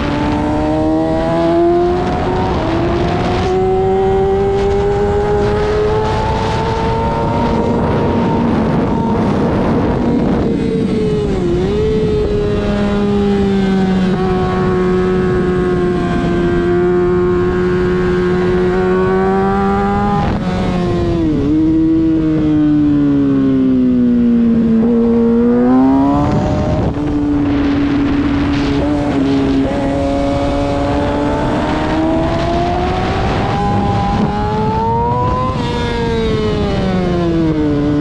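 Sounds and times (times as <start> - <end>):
wind rushing: 0.0 - 22.4, 23.0 - 38.0
motorcycle engine at high revs: 0.0 - 38.0.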